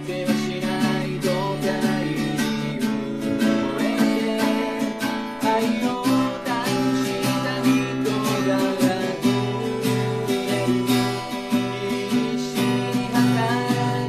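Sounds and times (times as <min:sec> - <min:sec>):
acoustic guitar strummed: 0:00.0 - 0:14.0
man singing: 0:00.0 - 0:14.0.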